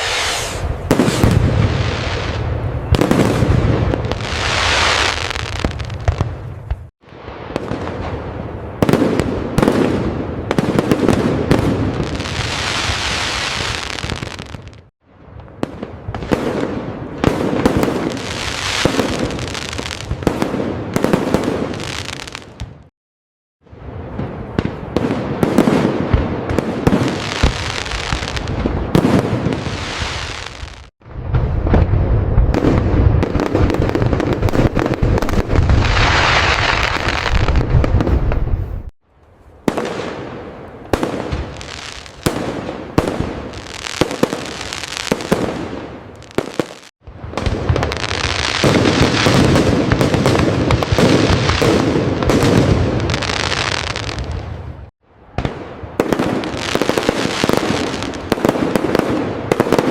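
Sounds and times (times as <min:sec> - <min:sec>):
fireworks bursts and crackles: 0:00.0 - 0:22.9, 0:23.7 - 0:38.9, 0:39.6 - 0:59.9.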